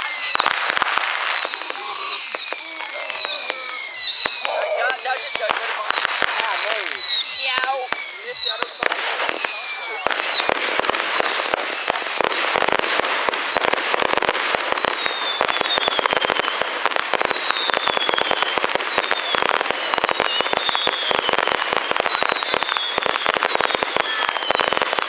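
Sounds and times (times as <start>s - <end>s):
fireworks crackling and popping: 0.0s - 25.0s.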